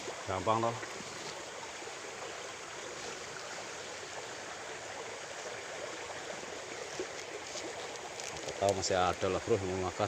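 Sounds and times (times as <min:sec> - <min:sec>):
small stream flowing: 0:00.0 - 0:10.0.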